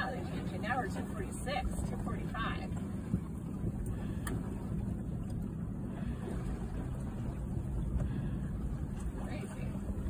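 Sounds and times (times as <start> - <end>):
wind and water rumble: 0.0 - 10.0.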